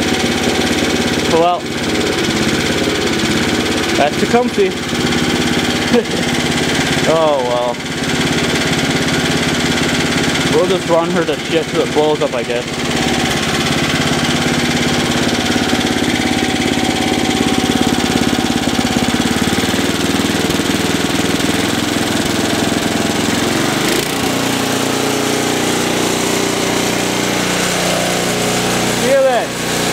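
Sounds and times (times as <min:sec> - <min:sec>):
engine knocking: 0:00.0 - 0:29.9
small engine with loud exhaust: 0:00.0 - 0:29.9.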